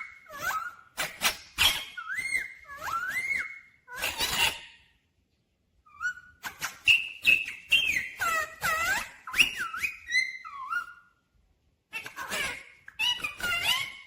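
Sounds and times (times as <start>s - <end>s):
parakeet whistled calls: 0.0s - 4.8s, 5.9s - 11.1s, 12.0s - 14.0s.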